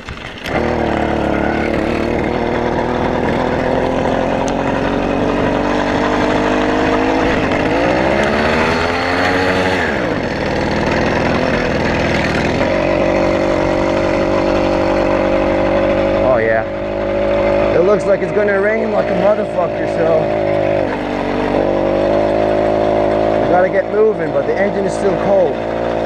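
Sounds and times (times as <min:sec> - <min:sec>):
two-stroke engine revving: 0:00.0 - 0:26.0.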